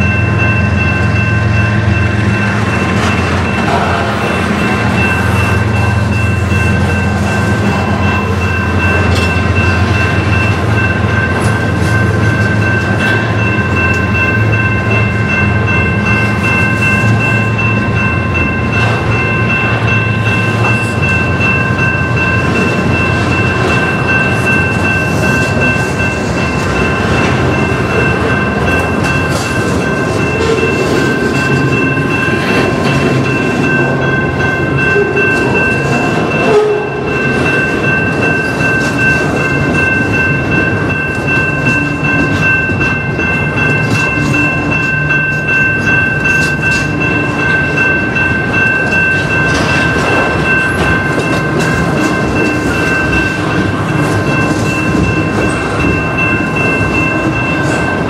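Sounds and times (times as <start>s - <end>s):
crossing signal bell ringing: 0.0s - 58.0s
train wheels clattering on rails: 0.0s - 58.0s.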